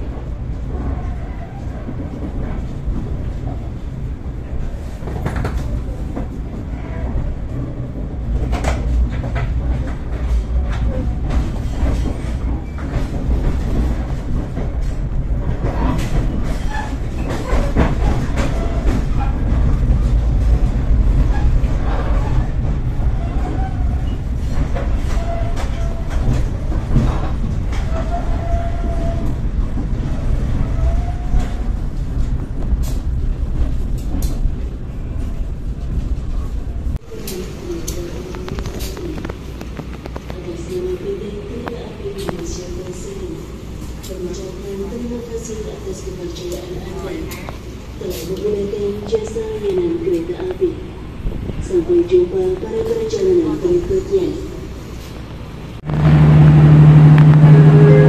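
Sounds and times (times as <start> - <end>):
train coach rumble: 0.0 - 58.0.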